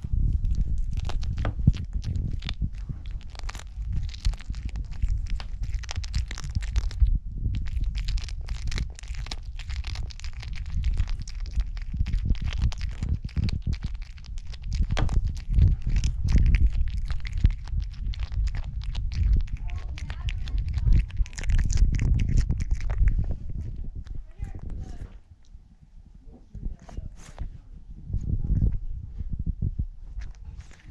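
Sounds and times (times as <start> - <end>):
cat chewing bones: 0.0 - 24.8, 30.2 - 30.9
low rumble: 0.0 - 30.9.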